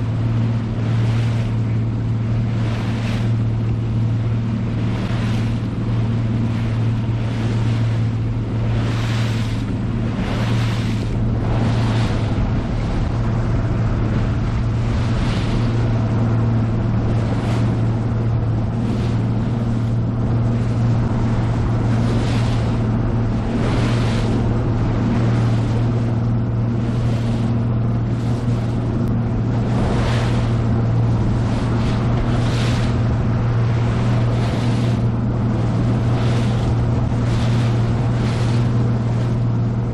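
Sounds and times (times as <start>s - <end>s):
outboard motor running: 0.0s - 39.9s
water splashing along hull: 0.0s - 39.9s.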